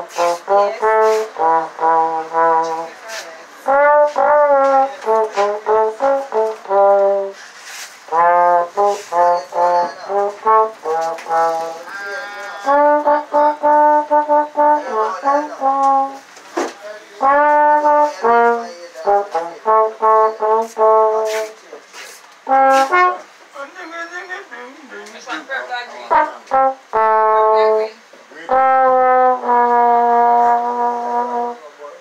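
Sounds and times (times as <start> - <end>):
slide trombone melody: 0.0 - 16.3, 17.2 - 21.7, 22.4 - 23.4, 26.1 - 32.0.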